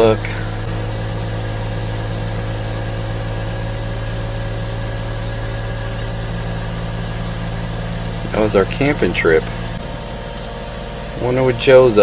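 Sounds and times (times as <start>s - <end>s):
small truck engine idling: 0.0s - 12.0s.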